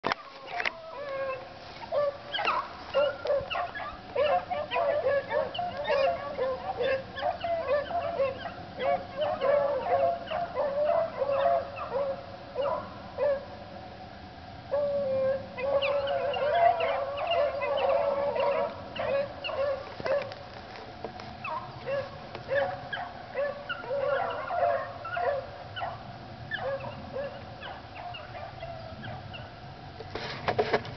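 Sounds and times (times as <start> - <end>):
hounds baying and howling: 0.0 - 13.7, 14.7 - 29.8.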